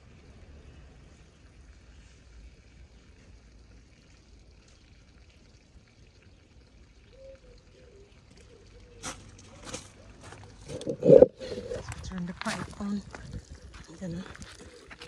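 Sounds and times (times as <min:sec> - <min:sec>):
hose water pouring onto soil: 0:00.0 - 0:15.0.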